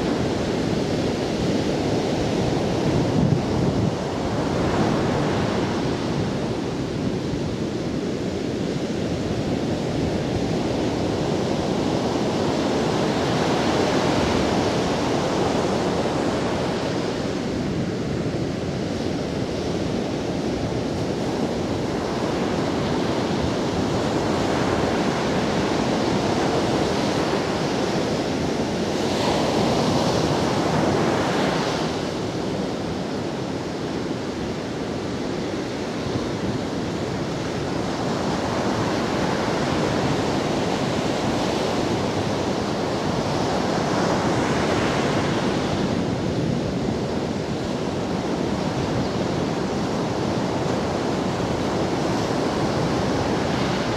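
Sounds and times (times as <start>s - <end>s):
ocean surf on beach: 0.0s - 53.9s.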